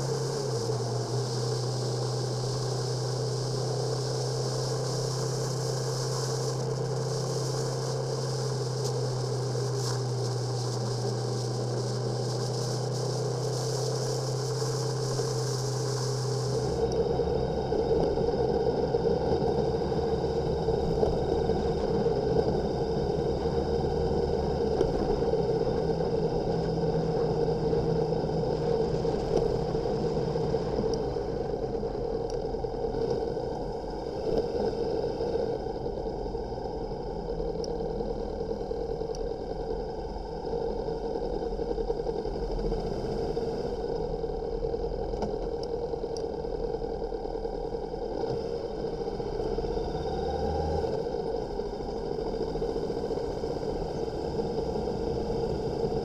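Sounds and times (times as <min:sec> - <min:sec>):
motorcycle engine running: 0:00.0 - 0:56.0
road noise: 0:00.0 - 0:56.0.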